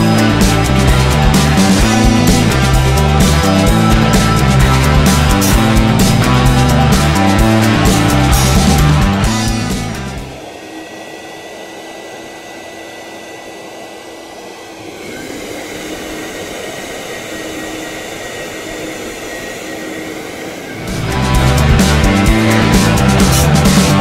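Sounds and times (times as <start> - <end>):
second motor spinning up: 0.0 - 24.0
vacuum cleaner whine: 0.0 - 24.0.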